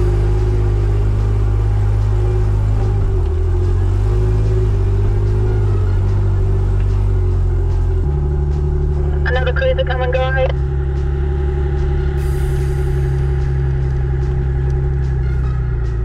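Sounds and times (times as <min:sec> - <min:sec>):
engine drone inside cab: 0:00.0 - 0:16.0.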